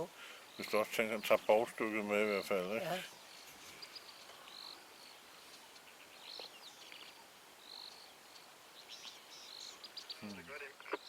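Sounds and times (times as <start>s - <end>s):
soft steady hiss: 0.0s - 11.0s.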